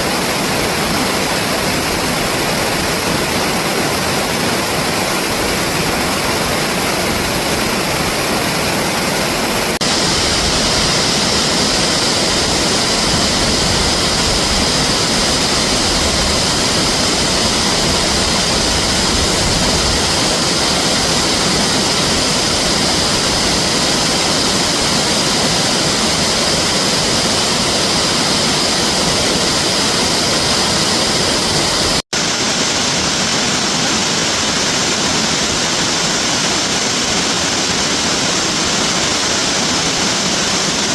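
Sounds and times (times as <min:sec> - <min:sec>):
reversed rushing water: 0:00.0 - 0:40.9.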